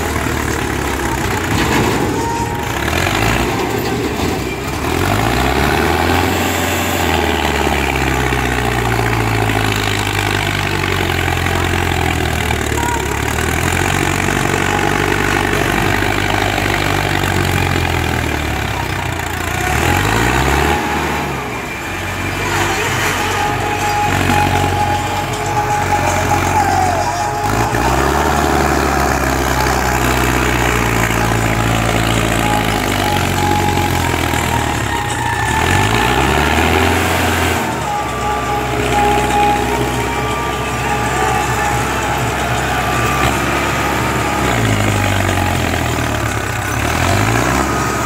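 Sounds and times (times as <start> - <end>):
tractor diesel engine labouring: 0.0 - 48.0.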